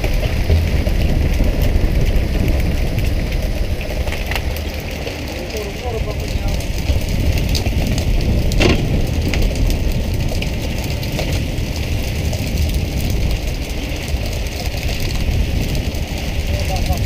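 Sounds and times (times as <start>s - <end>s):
water splashing along hull: 0.0s - 17.0s.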